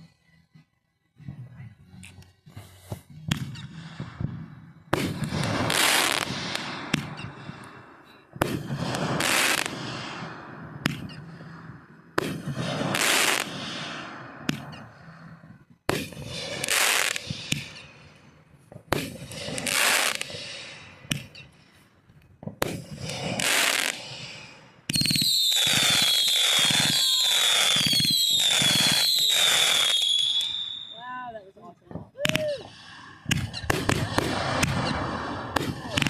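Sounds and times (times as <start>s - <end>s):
fireworks crackling hiss: 2.0s - 15.3s, 15.9s - 36.0s
fireworks bangs: 3.3s - 15.0s, 15.8s - 21.5s, 22.4s - 36.0s.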